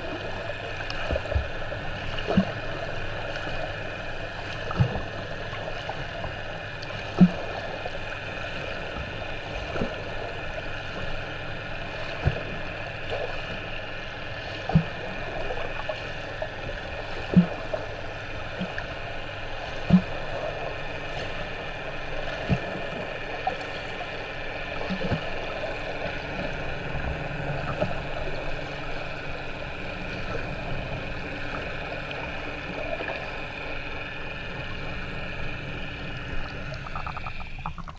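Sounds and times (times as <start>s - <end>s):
muffled underwater water wash: 0.0s - 37.9s.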